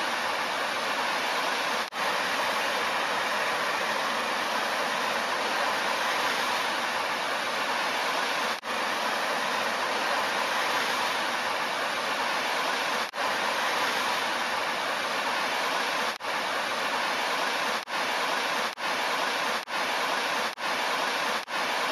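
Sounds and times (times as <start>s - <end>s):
fountain spray hissing into pond: 0.0s - 21.9s.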